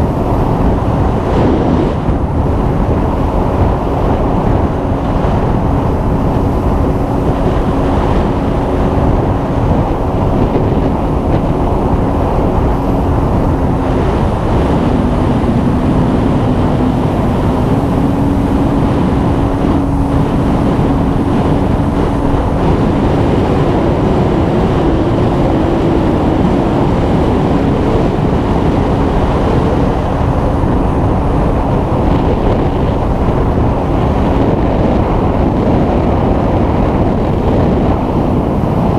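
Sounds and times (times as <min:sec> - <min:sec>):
atv engine running: 0:00.0 - 0:38.9
wind rumble on microphone: 0:00.0 - 0:38.9.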